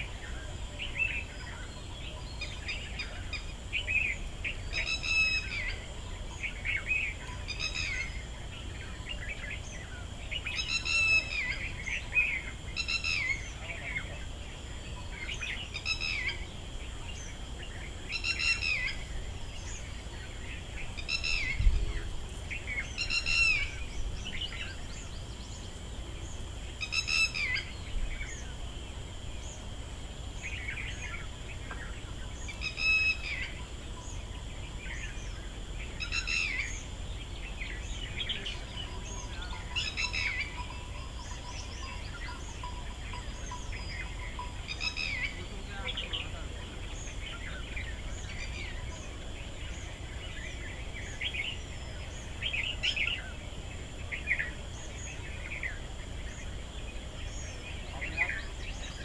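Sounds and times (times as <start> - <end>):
birds calling: 0.0 - 59.0
steady high-pitched drone: 0.0 - 59.0.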